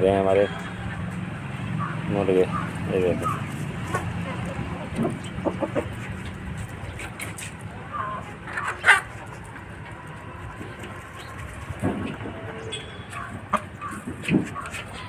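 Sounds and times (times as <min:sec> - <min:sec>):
chickens clucking: 0:00.6 - 0:15.0.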